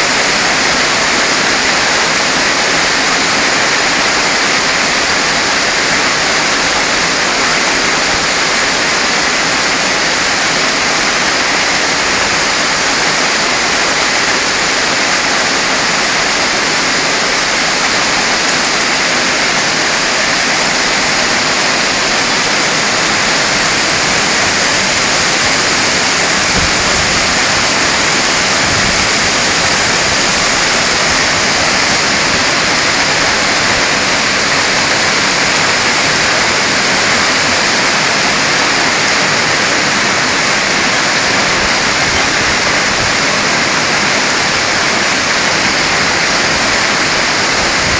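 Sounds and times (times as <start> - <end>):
hail and heavy rain pelting: 0.0 - 47.9.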